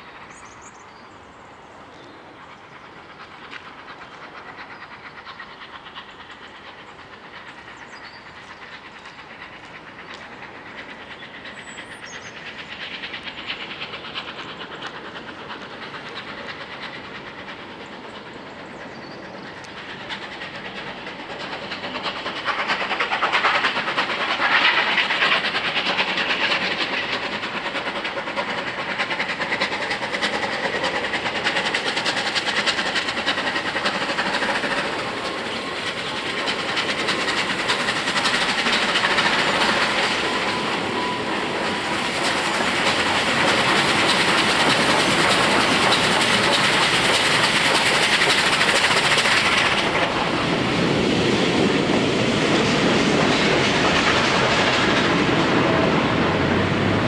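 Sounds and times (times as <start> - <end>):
steam locomotive exhaust beats: 0.0 - 57.0
steam locomotive wheels slipping: 1.8 - 57.0.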